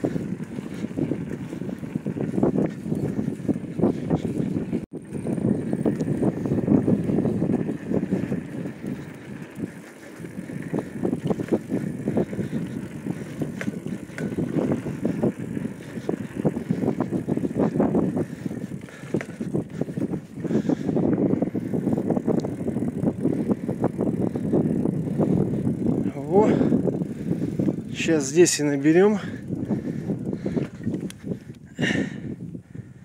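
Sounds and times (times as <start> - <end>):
bicycle rattling over dirt track: 0.0 - 33.0.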